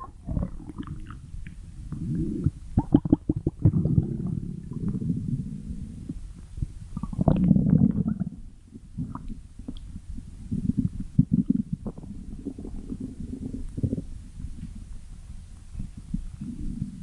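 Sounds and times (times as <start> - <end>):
stomach growling gurgles: 0.0 - 15.0, 15.7 - 17.0.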